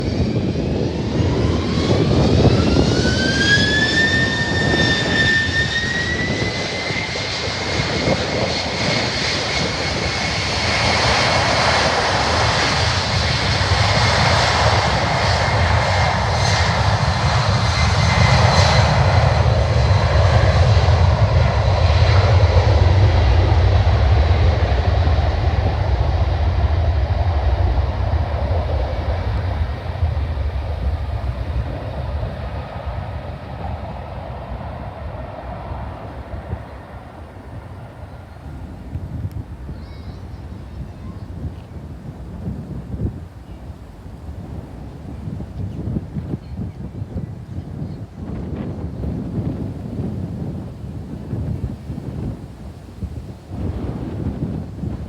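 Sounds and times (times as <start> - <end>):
jet engines whining: 0.0 - 46.4
jet roar and low rumble: 0.0 - 55.0.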